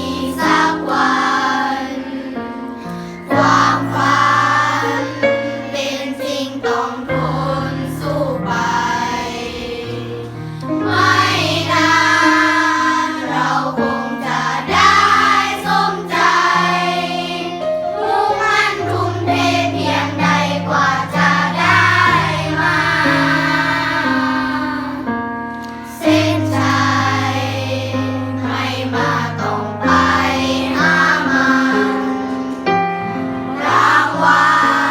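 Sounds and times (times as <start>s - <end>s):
singers holding sustained notes: 0.0s - 25.2s, 25.9s - 34.9s.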